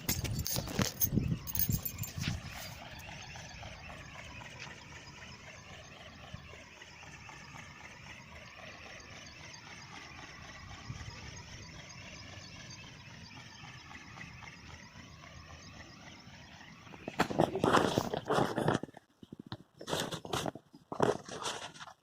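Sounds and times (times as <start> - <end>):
electric motor whine: 0.0 - 18.8.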